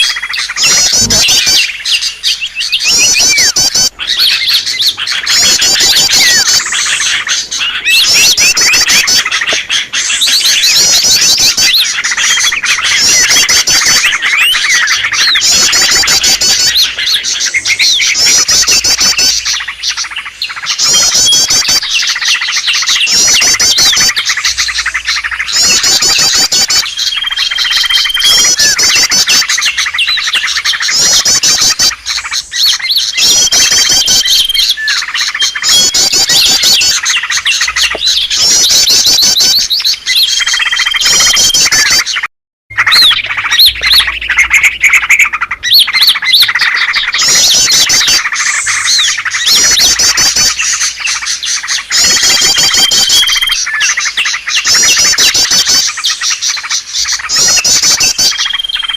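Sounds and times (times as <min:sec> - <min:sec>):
small birds chirping and trilling: 0:00.0 - 0:58.9.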